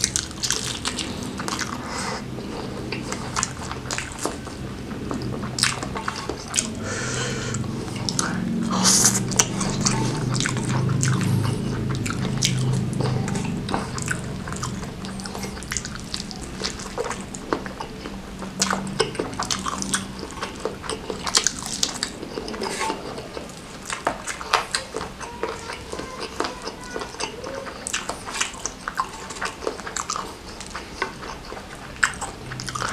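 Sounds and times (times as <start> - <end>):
low steady hum: 0.0 - 32.9
wet chewing and mouth clicks: 0.0 - 32.9.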